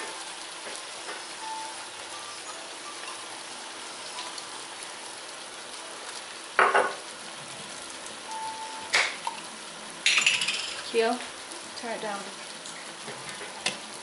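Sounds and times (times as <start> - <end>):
sauce sizzling in a pot: 0.0 - 14.0.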